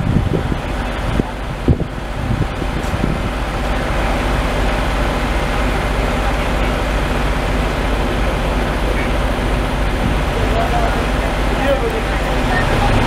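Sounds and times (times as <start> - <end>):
large engine running steadily: 0.0 - 13.0.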